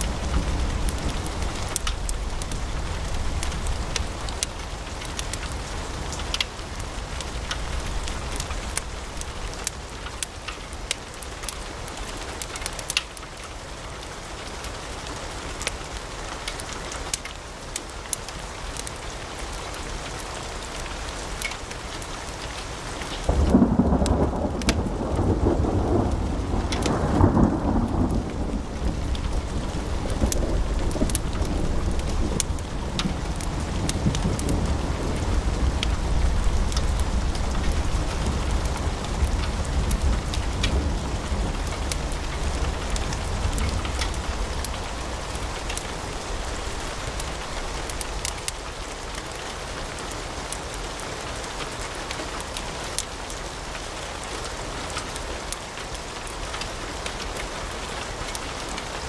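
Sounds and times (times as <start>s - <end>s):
low rumble of fire: 0.0s - 54.3s
wood fire crackling: 0.0s - 59.0s.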